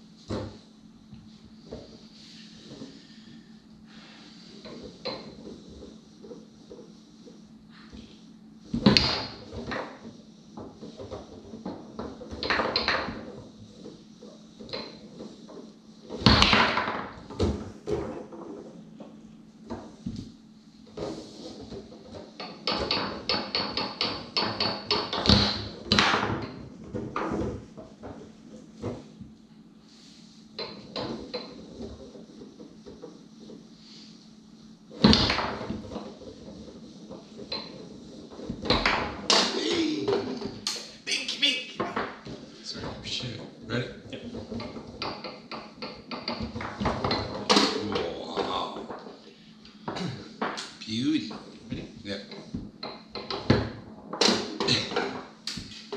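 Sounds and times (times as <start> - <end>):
foosball rods knocking: 0.0 - 55.9
foosball ball clacking: 4.4 - 41.0, 41.8 - 55.9.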